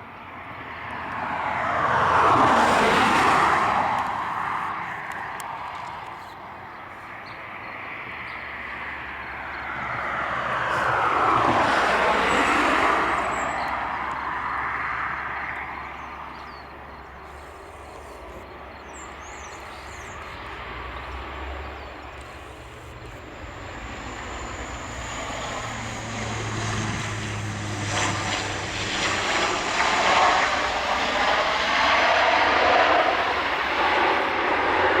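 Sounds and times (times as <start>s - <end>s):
airliner engines passing low: 0.0s - 35.0s.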